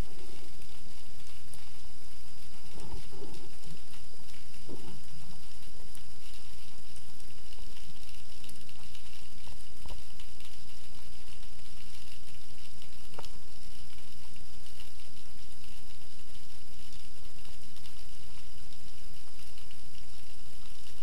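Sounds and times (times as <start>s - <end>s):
low hum: 0.0s - 21.0s
underwater hiss: 0.0s - 21.0s
faint clicks: 0.1s - 21.0s.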